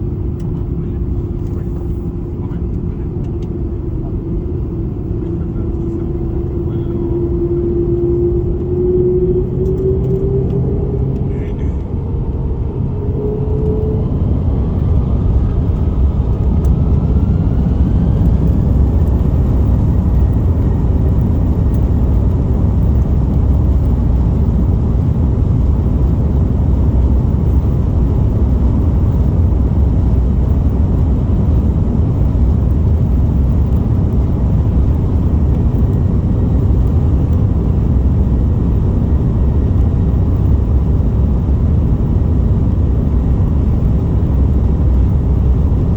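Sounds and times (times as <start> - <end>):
jet engine rumble: 0.0 - 45.9
jet engine whine: 0.0 - 45.9.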